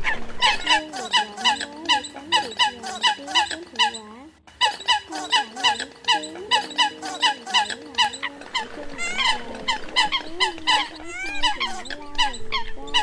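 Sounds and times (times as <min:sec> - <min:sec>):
coots calling: 0:00.0 - 0:13.0.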